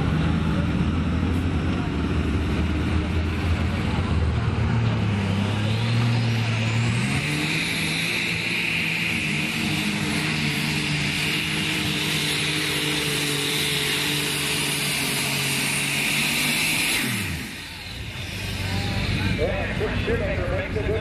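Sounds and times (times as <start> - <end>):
high turbo whine: 0.0 - 21.0
tractor engine running under load: 0.0 - 21.0.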